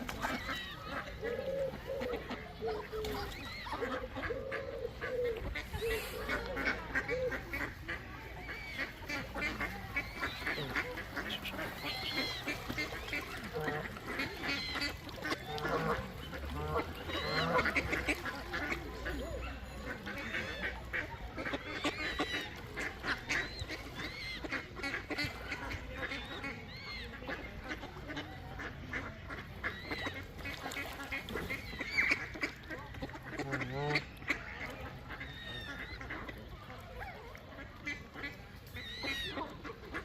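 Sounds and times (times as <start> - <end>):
ducks quacking: 0.0 - 40.0.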